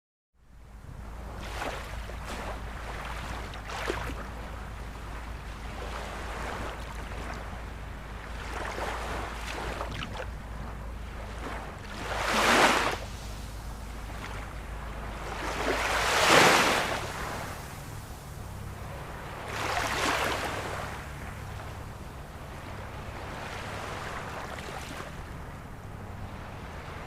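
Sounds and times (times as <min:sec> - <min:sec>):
steady low rumble: 0:00.4 - 0:27.0
ocean waves washing ashore: 0:00.5 - 0:27.0
wave breaking: 0:01.3 - 0:25.4.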